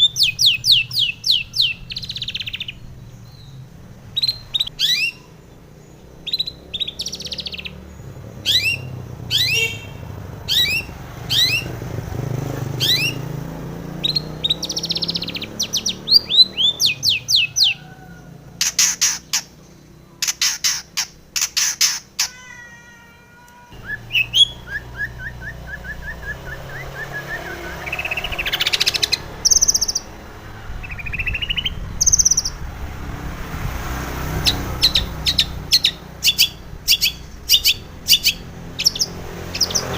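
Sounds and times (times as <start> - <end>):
bird singing: 0.0 - 32.7, 34.2 - 39.9.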